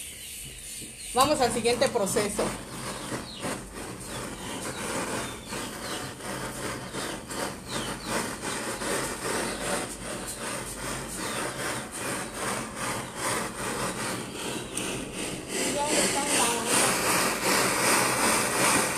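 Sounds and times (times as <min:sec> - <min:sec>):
torch flame pulsing rush: 0:01.2 - 0:18.9.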